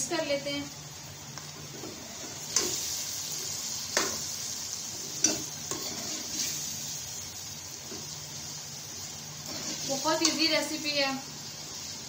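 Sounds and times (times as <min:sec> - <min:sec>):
frying sizzle: 0:00.0 - 0:12.0.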